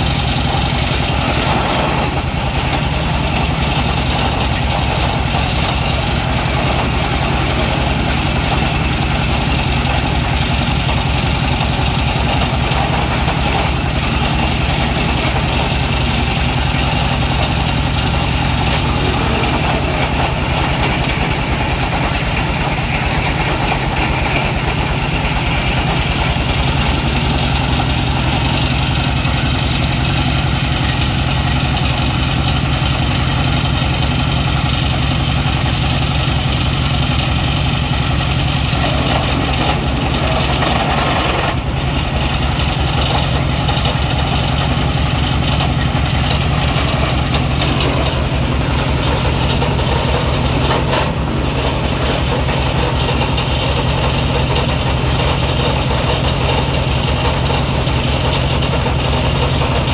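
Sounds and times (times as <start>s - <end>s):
engine beat: 0.0s - 59.9s
rotor grinding dry plant material: 0.0s - 59.9s.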